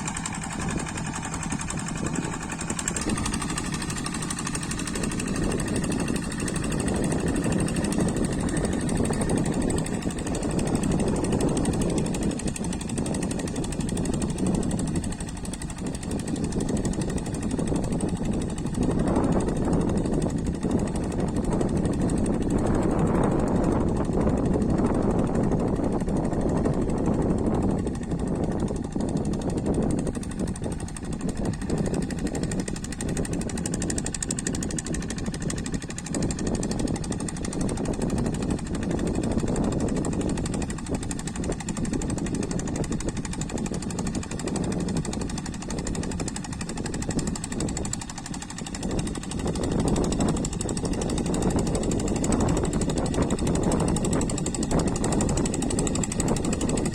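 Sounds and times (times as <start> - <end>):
diesel engine knocking: 0.0 - 56.9.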